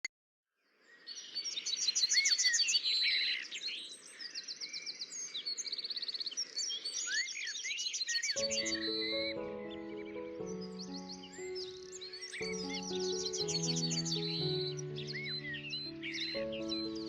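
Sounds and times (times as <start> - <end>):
birds singing and calling: 0.7 - 17.0.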